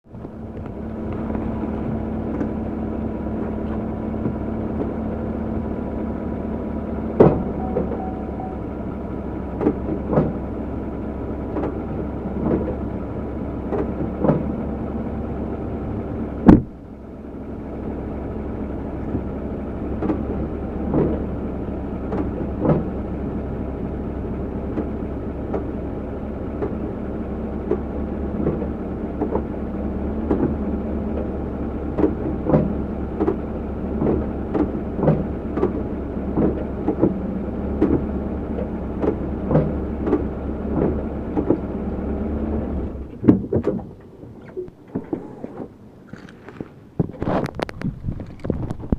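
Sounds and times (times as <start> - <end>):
car engine idling: 0.0 - 48.9
drivetrain clunks: 0.1 - 15.2, 16.3 - 16.9, 18.9 - 21.4, 22.0 - 23.2, 24.6 - 25.8, 26.5 - 48.9.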